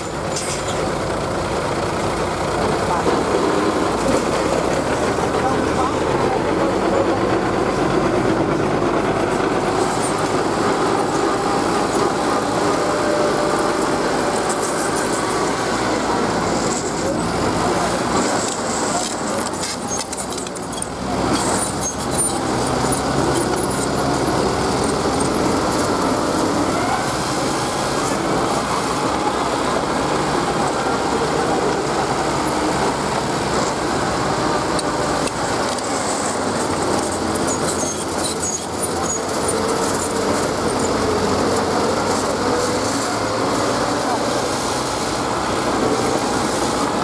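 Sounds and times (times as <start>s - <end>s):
bulldozer diesel engine running: 0.0s - 47.0s.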